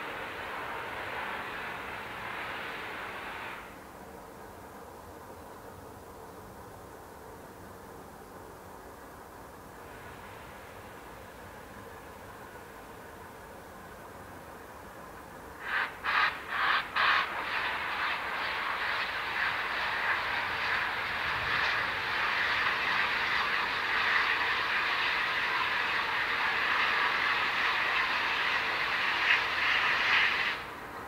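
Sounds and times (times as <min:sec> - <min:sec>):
steam locomotive exhaust beats: 0:00.0 - 0:03.9, 0:09.5 - 0:31.0.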